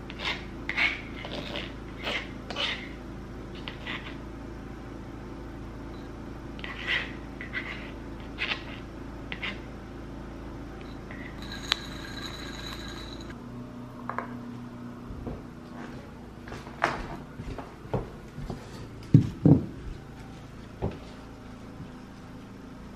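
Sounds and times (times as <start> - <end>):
air conditioner hum: 0.0 - 22.9.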